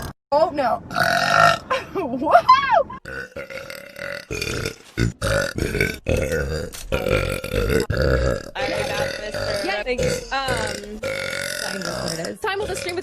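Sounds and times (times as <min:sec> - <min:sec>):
person burping loudly: 0:00.9 - 0:01.8, 0:03.0 - 0:13.0.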